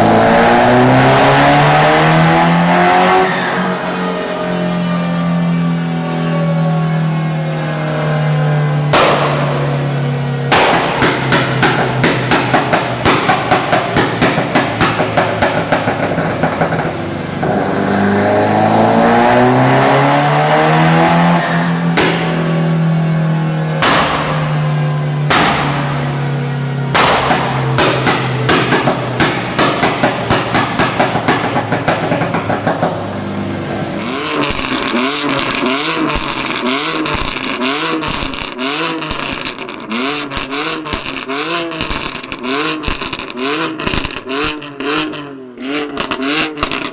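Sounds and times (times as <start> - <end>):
car engine revving: 0.0 - 46.9
exhaust popping and crackling: 0.0 - 46.9.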